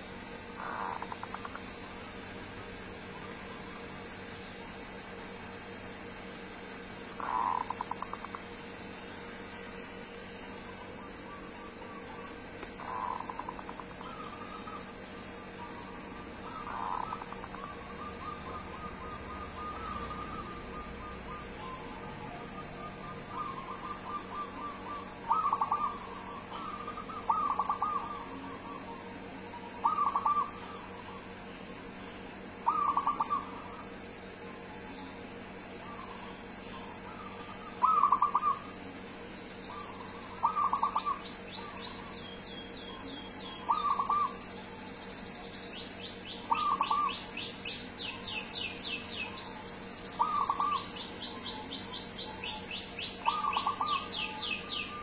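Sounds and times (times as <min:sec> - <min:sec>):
dove cooing: 0:00.0 - 0:05.6, 0:07.1 - 0:08.6, 0:09.2 - 0:42.2, 0:42.8 - 0:45.2, 0:46.1 - 0:55.0
bird rising chirps: 0:00.0 - 0:55.0.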